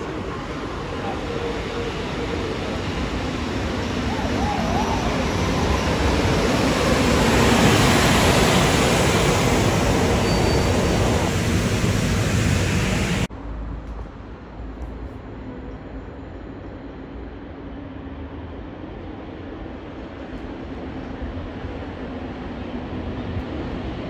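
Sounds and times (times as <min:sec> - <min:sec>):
distant rail-yard hum: 0:00.0 - 0:24.0
train wheels rumbling on rails: 0:00.0 - 0:24.0.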